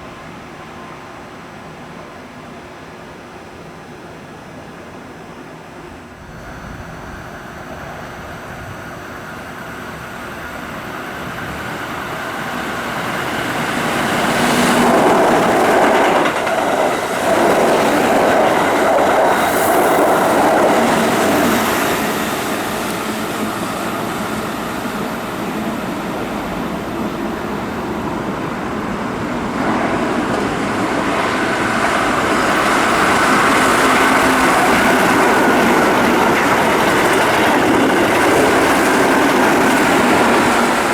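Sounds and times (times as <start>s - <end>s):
electric train passing: 0.0s - 40.9s
second train approaching: 0.0s - 40.9s.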